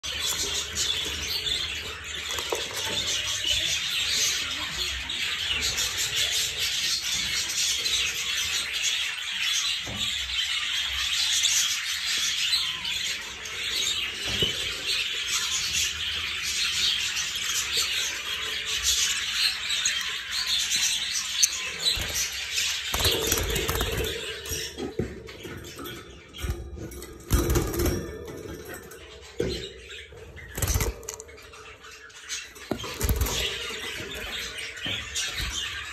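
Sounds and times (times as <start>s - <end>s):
budgerigars chattering and chirping: 0.0s - 35.9s.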